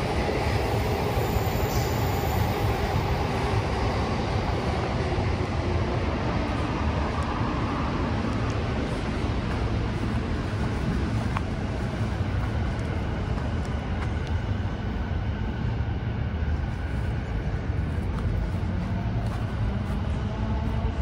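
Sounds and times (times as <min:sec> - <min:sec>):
low rumble of city traffic: 0:00.0 - 0:21.0.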